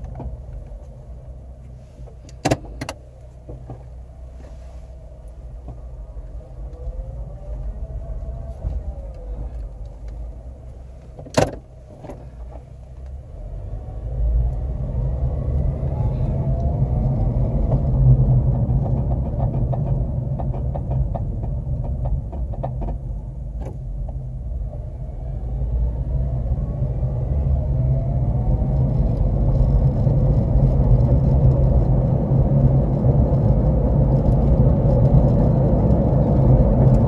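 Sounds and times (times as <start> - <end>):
car driving rumble: 0.0 - 37.0.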